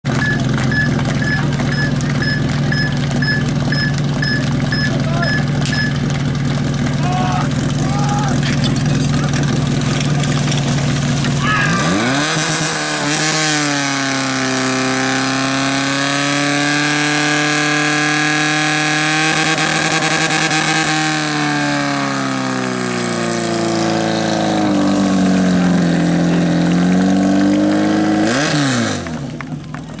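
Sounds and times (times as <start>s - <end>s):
pump engine revving: 0.1s - 29.4s.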